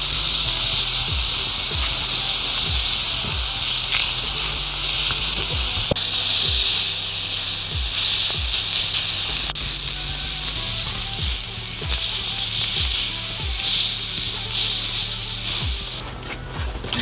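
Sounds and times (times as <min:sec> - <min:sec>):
meat sizzling on hot stones: 0:00.0 - 0:16.0
music with thumping beat: 0:00.0 - 0:17.0.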